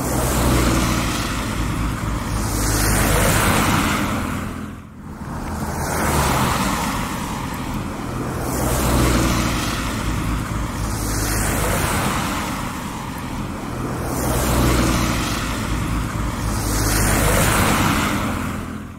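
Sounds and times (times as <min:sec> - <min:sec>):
cars passing on wet road: 0:00.0 - 0:18.9.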